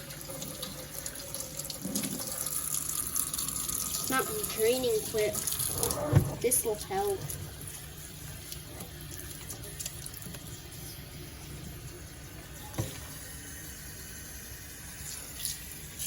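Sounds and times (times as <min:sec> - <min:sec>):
faucet running into a sink: 0:00.0 - 0:16.0.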